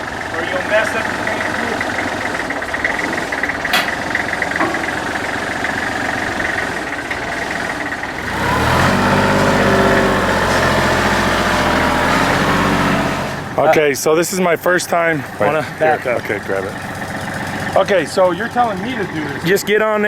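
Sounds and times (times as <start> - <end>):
backhoe diesel engine running: 0.0 - 20.0.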